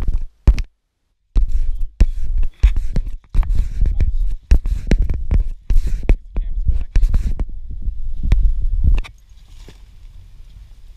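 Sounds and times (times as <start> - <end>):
rustling and bumping near microphone: 0.0 - 0.7, 1.4 - 10.6.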